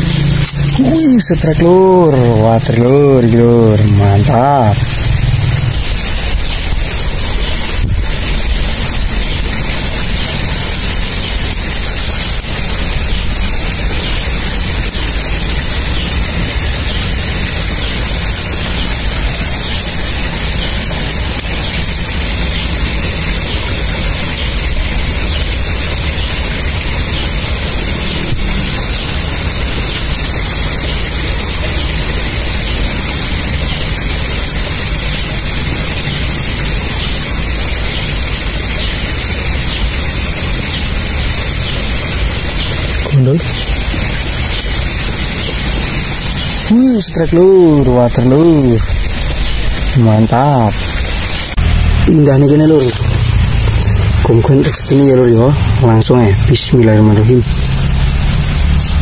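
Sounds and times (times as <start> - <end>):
loud rushing hiss: 0.0 - 59.0.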